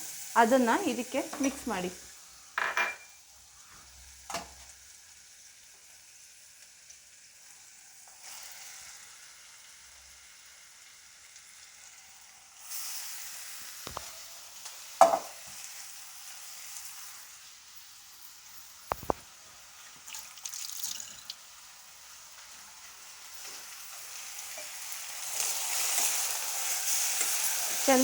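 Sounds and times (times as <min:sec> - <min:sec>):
chicken sizzling in oil: 0:00.0 - 0:28.0.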